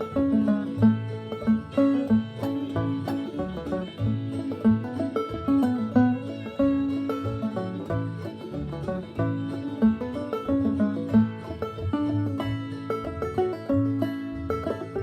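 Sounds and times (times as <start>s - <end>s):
fiddle melody: 0.0s - 15.0s
plucked banjo notes: 0.0s - 15.0s.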